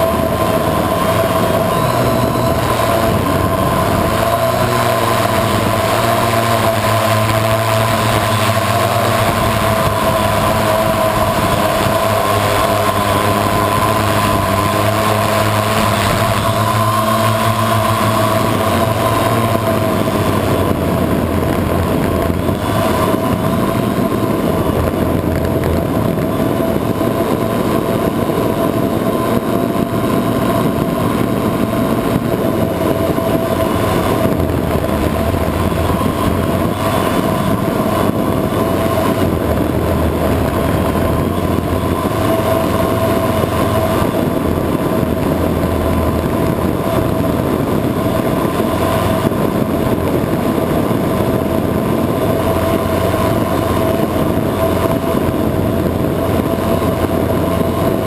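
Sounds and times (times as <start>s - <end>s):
drone motors buzzing: 0.0s - 58.0s
wind rushing: 0.0s - 58.0s.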